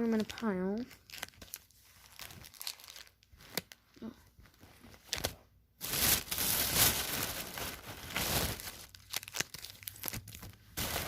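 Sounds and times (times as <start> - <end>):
foil wrappers crinkling: 0.0 - 3.9, 4.9 - 11.0.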